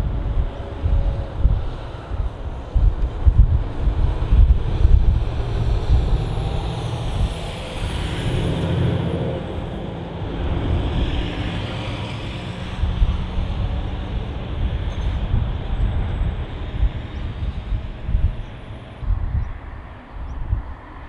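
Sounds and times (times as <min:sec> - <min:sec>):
jet aircraft passing: 0:00.0 - 0:20.0
wind buffeting microphone: 0:00.0 - 0:21.0.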